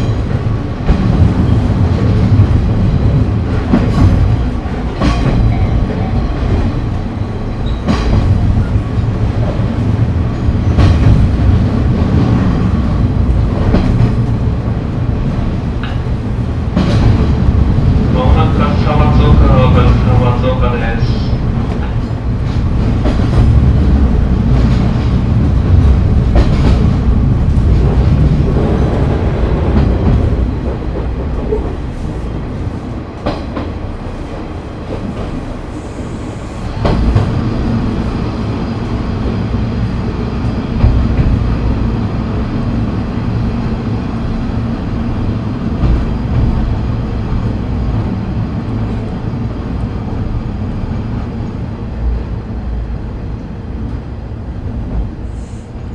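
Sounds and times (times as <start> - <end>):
diesel railcar engine rumble: 0.0 - 55.9.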